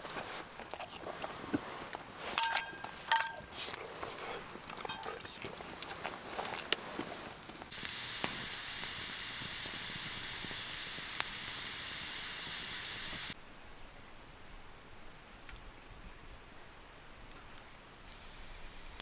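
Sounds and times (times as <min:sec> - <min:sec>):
steady hiss: 0:00.0 - 0:15.4, 0:17.8 - 0:19.0.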